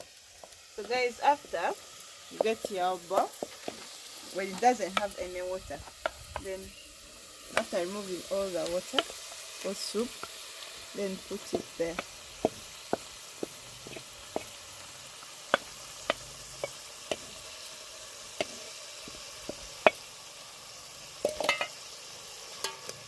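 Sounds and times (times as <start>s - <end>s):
simmering pot hiss: 0.0s - 23.0s.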